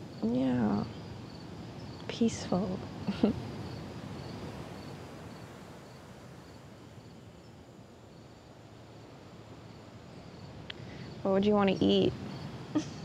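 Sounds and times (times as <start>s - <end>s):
crickets chirping: 0.0s - 13.0s
low outdoor rumble: 0.0s - 13.0s.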